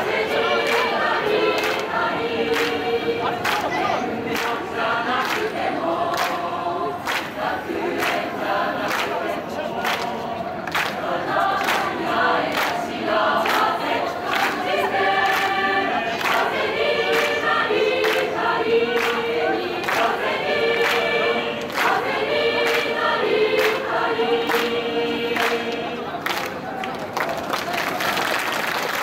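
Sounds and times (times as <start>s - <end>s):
choir singing sustained chords: 0.0s - 26.3s.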